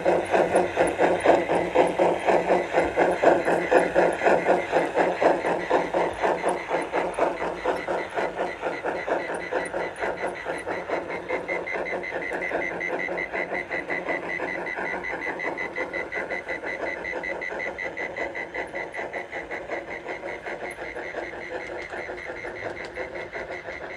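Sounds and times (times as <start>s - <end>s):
model steam locomotive chuffing: 0.0s - 23.9s.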